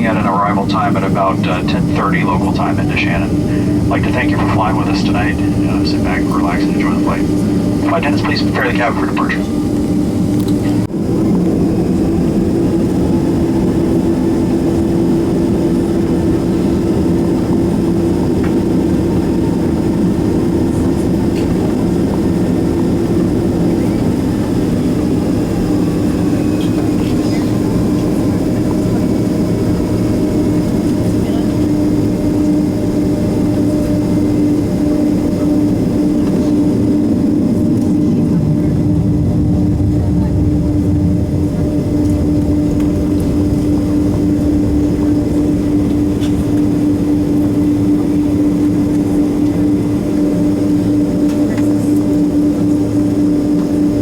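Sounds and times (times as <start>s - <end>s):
jet engines droning in cabin: 0.0s - 54.0s.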